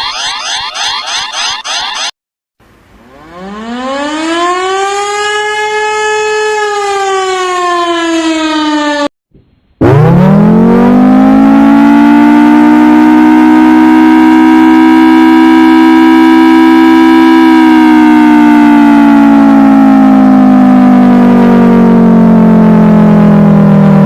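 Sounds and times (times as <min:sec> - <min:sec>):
civil defense siren wailing: 0:00.0 - 0:02.1, 0:03.0 - 0:09.1, 0:09.8 - 0:24.0.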